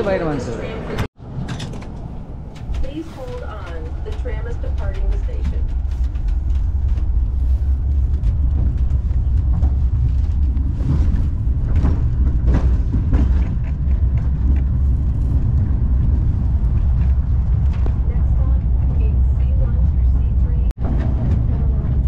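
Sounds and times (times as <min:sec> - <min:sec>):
tram running low rumble: 0:00.4 - 0:22.0
knocks and rattles: 0:01.3 - 0:22.0.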